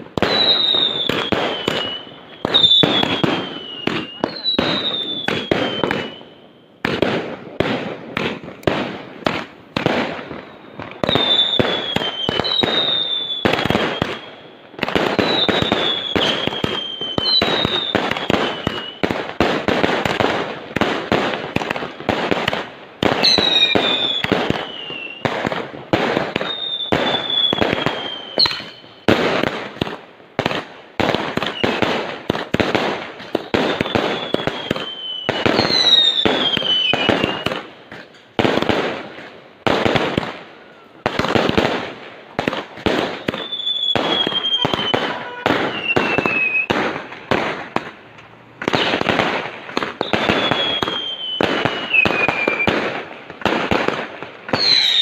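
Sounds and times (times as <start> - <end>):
fireworks cracks and bangs: 0.0 - 55.0
fireworks whistles falling in pitch: 0.0 - 55.0.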